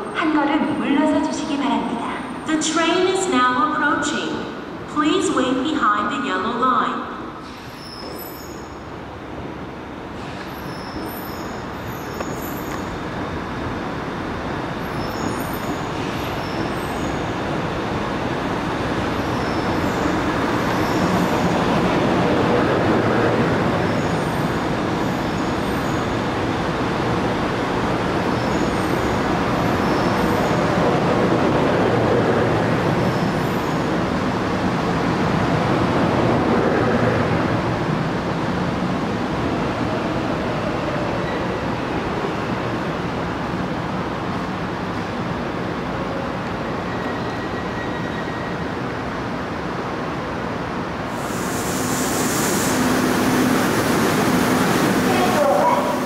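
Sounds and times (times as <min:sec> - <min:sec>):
electric train pulling in: 0:07.4 - 0:56.0.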